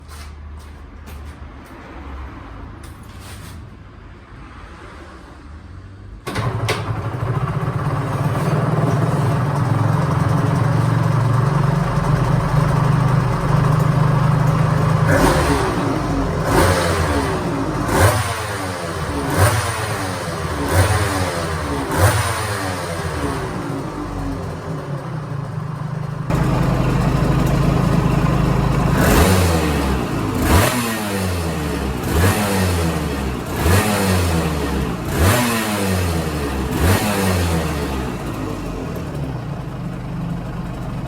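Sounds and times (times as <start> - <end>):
motorcycle engine idling and revving: 5.3 - 41.0.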